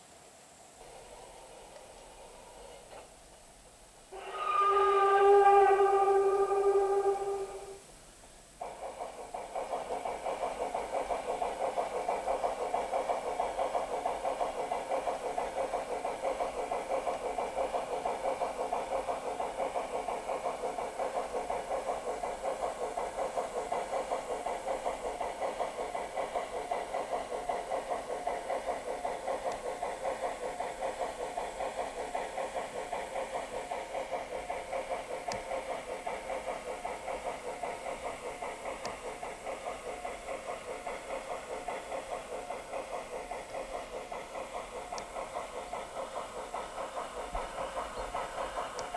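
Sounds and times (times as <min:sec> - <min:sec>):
model steam locomotive chuffing: 0:00.0 - 0:48.9.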